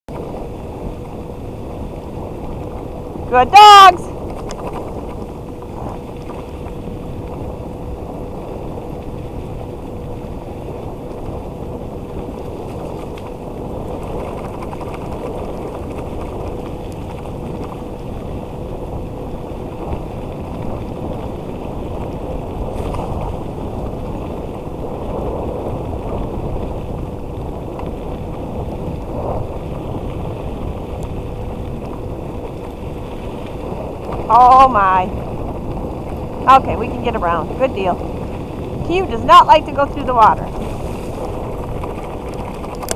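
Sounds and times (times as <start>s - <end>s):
tyres rolling over wet trail: 0.1s - 42.9s
wind on microphone: 0.1s - 42.9s.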